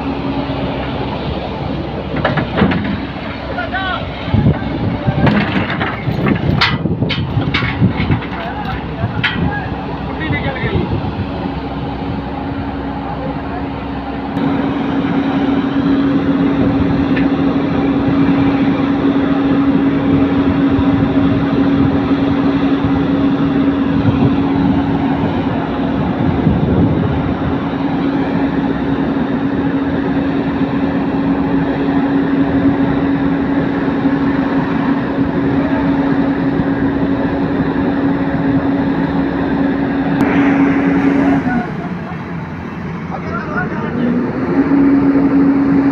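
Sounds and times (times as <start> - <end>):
diesel machinery engine drone: 0.0 - 45.9.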